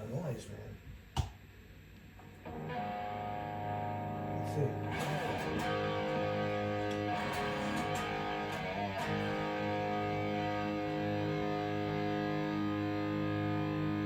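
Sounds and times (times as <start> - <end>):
distorted electric guitar chord: 2.4 - 14.0.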